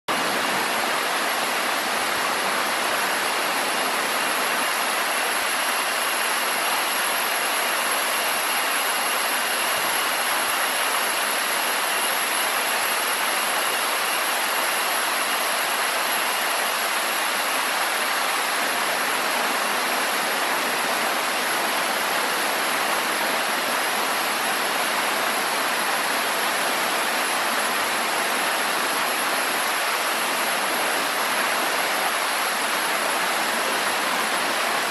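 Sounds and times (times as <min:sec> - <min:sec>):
running water rushing: 0:00.1 - 0:34.9.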